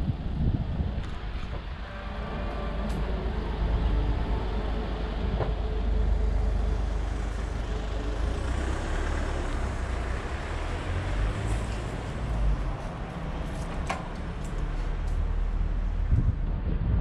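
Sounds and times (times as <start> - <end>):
wind rumble on microphone: 0.0 - 8.2, 9.6 - 17.0
street traffic: 0.0 - 17.0
motor vehicle running close by: 1.3 - 17.0.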